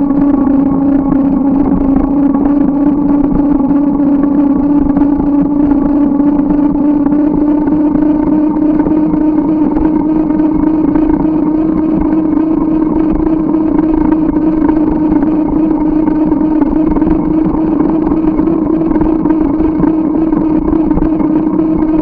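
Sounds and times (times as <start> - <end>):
bicycle riding hum and rumble: 0.0 - 22.0.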